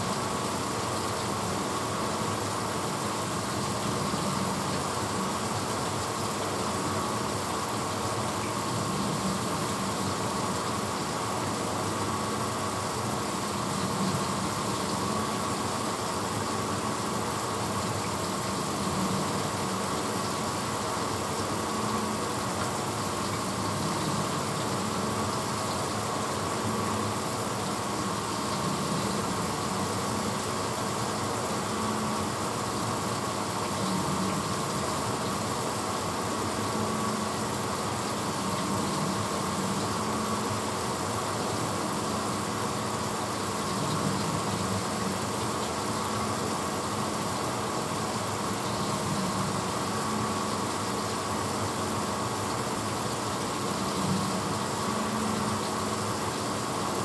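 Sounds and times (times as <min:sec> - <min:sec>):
dishwasher motor hum: 0:00.0 - 0:57.0.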